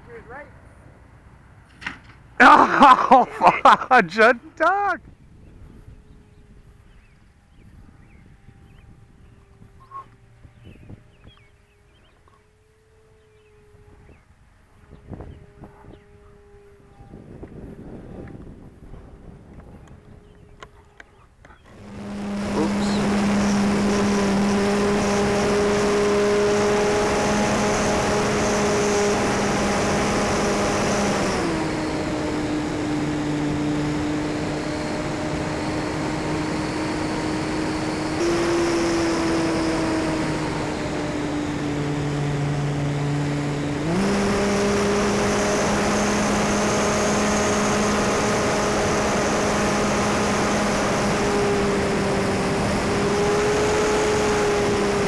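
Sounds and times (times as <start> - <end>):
model airplane motor humming: 4.2 - 55.0.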